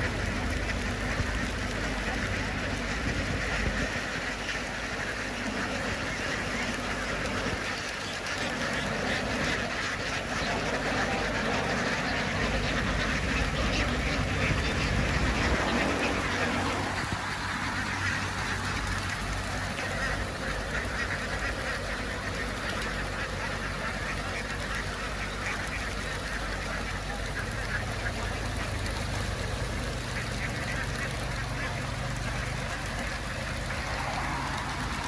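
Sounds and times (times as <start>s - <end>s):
ducks quacking: 0.0s - 35.0s
low engine hum: 0.0s - 35.0s.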